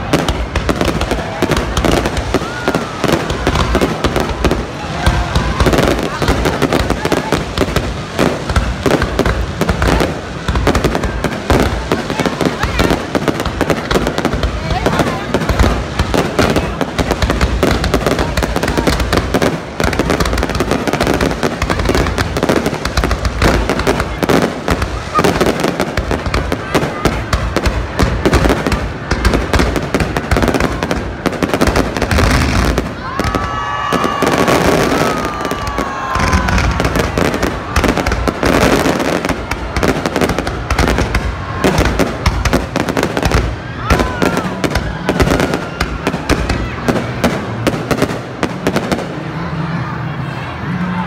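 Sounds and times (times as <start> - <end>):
fireworks bursting and crackling: 0.0 - 50.3.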